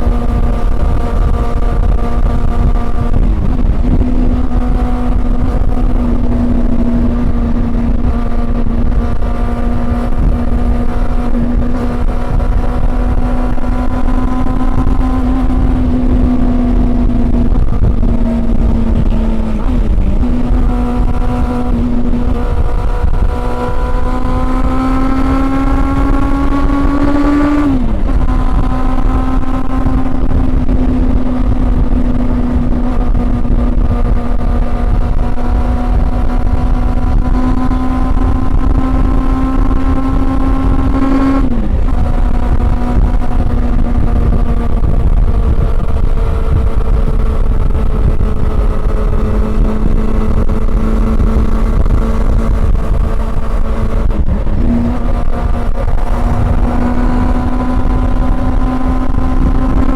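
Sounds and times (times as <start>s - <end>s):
low wind rumble: 0.0s - 59.9s
motorcycle engine running: 0.0s - 59.9s.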